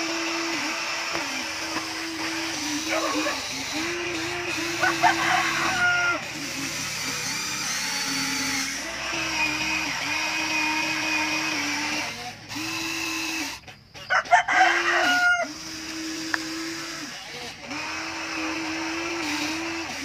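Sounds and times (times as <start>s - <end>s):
toy excavator electric motors whining: 0.0s - 20.0s.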